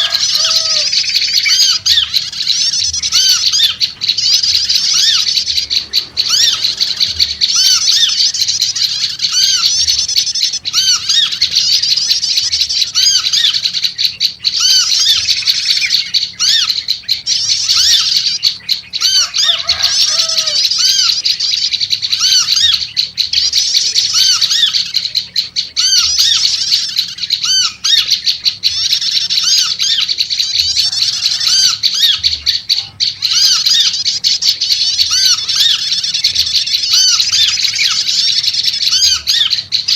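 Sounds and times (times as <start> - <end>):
lower warbled bird notes: 0.0 - 39.9
songbirds chattering: 0.0 - 39.9.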